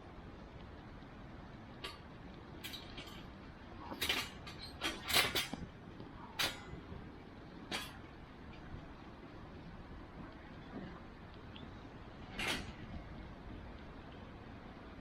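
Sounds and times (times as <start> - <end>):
low steady rush: 0.0 - 15.0
wood fire crackling: 0.0 - 15.0.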